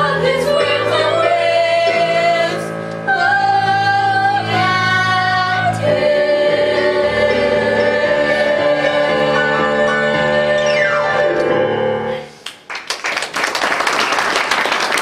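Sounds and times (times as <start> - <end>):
musical accompaniment: 0.0 - 12.7.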